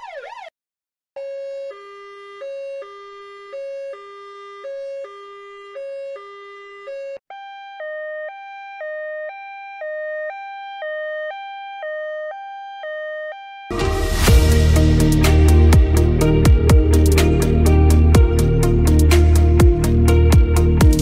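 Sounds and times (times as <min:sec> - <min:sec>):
two-tone emergency siren: 0:00.0 - 0:00.6, 0:01.2 - 0:21.0.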